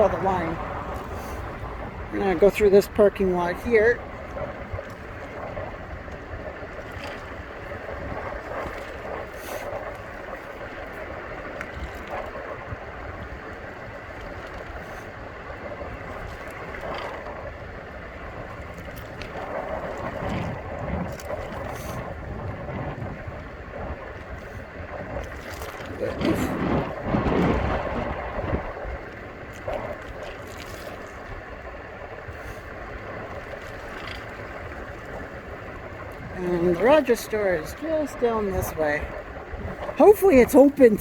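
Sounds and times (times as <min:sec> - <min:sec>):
wind noise: 0:00.0 - 0:41.0.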